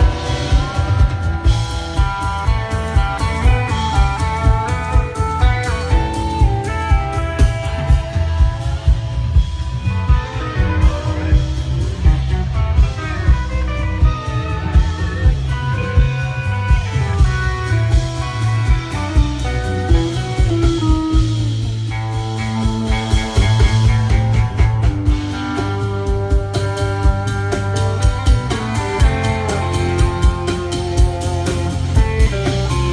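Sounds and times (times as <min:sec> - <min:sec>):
bass: 0:00.0 - 0:32.9
drum kit beat: 0:00.0 - 0:32.9
electric guitar: 0:00.0 - 0:32.9.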